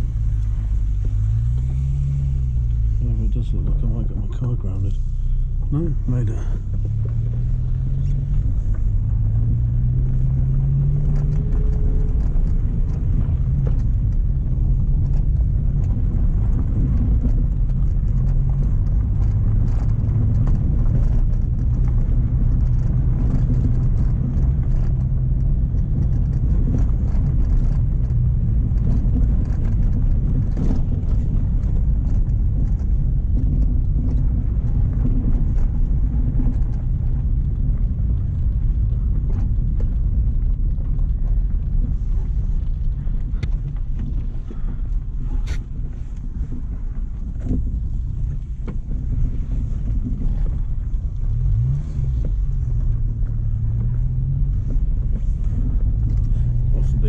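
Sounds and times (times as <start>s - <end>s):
car engine at low speed: 0.0s - 57.0s
car knocks and rattles: 0.0s - 57.0s.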